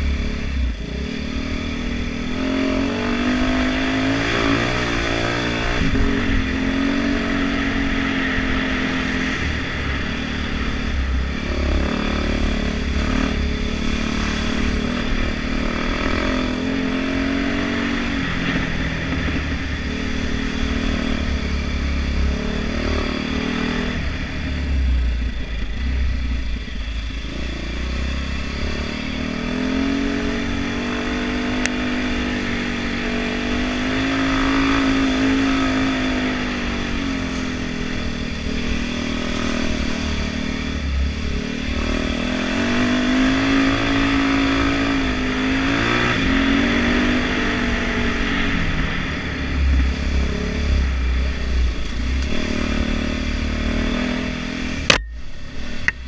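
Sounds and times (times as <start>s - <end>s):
dirt bike engine revving: 0.0s - 25.9s, 26.9s - 56.0s.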